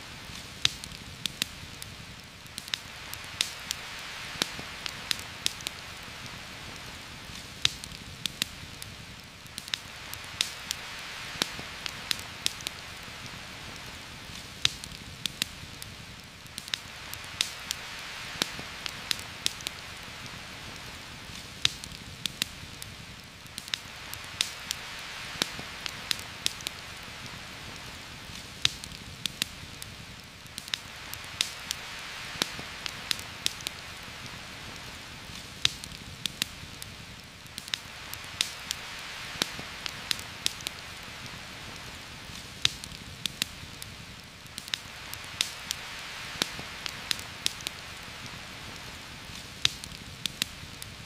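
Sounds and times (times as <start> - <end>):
campfire crackling and popping: 0.0 - 51.0
heavy rain on foliage: 0.0 - 51.0.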